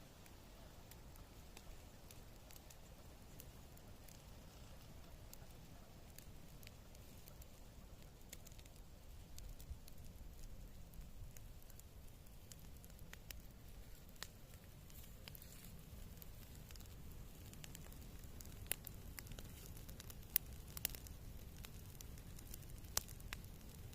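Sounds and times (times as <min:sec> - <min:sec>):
campfire crackling: 0:00.0 - 0:23.9
fire snapping: 0:00.0 - 0:23.9.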